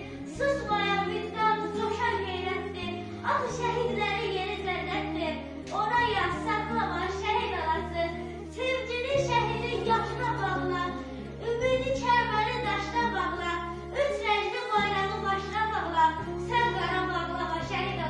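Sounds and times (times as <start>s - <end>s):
held low backing chords: 0.0s - 18.0s
woman singing mournful song: 0.0s - 18.0s.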